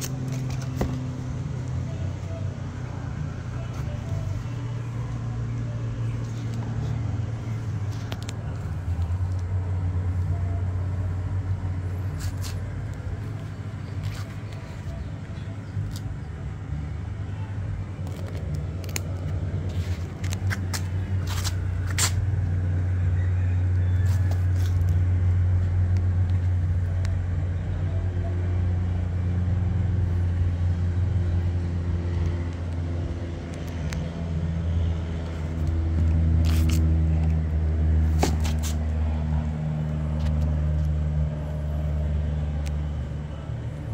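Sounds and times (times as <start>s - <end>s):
low mechanical motor hum: 0.0s - 43.9s.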